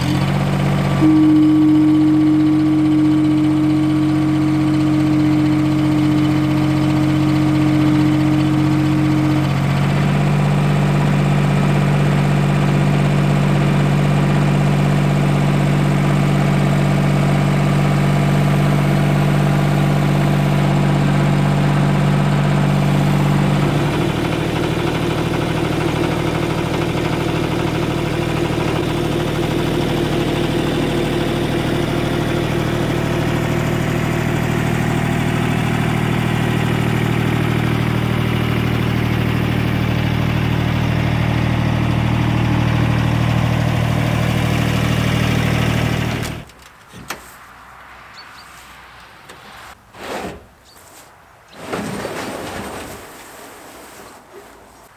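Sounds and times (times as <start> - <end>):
diesel engine running: 0.0 - 49.8.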